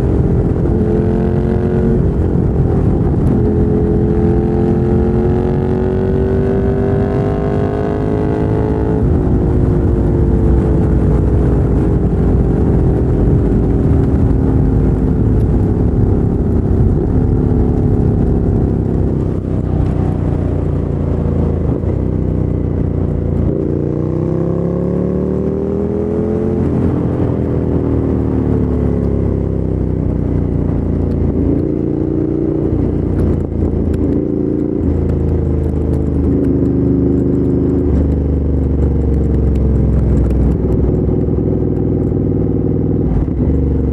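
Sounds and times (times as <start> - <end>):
motorcycle engine while riding: 0.0 - 43.9.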